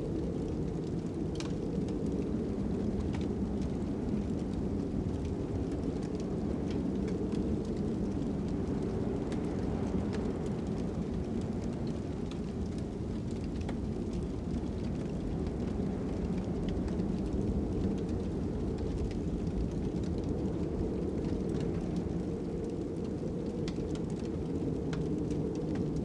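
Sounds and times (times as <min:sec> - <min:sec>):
fire crackling and popping: 0:00.0 - 0:26.0
low wind rumble: 0:00.0 - 0:26.0.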